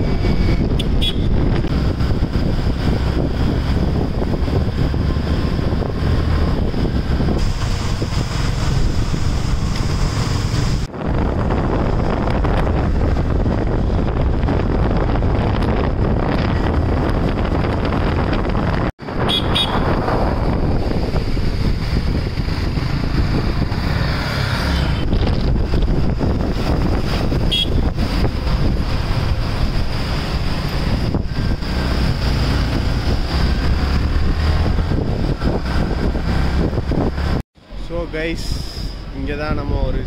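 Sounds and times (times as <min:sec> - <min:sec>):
wind buffeting the microphone: 0:00.0 - 0:37.4
motorbike engine and road noise: 0:00.0 - 0:40.0.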